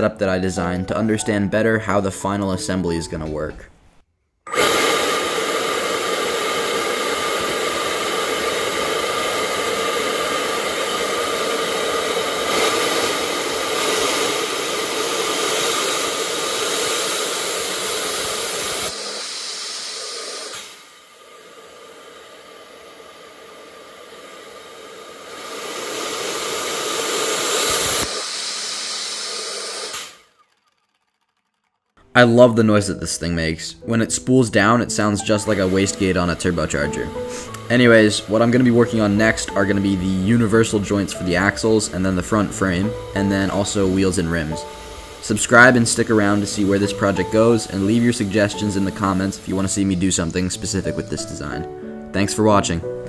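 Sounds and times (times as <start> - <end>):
ducted fan rushing whine: 4.6 - 31.4, 34.6 - 51.9.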